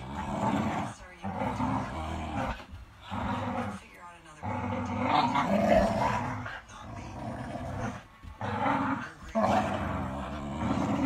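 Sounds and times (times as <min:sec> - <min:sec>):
dogs growling in play: 0:00.0 - 0:11.0.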